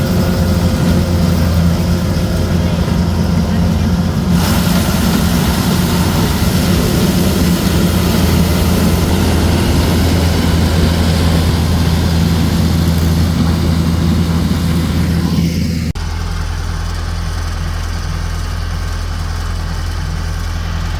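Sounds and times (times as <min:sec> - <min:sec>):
harvester engine hum: 0:00.0 - 0:20.9
loud rushing mechanical noise: 0:00.0 - 0:20.9.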